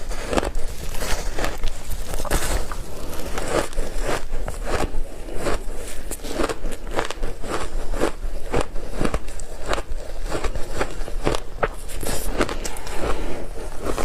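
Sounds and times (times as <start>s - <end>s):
ice crunching being chewed: 0.0s - 14.0s.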